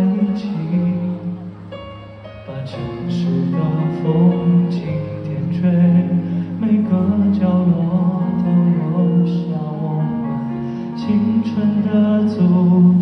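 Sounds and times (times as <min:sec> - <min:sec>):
man singing: 0:00.0 - 0:01.6, 0:02.4 - 0:13.0.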